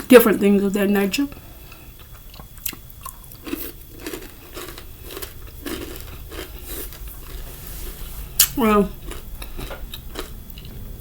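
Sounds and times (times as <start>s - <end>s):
chewing crunchy food: 1.3s - 10.9s.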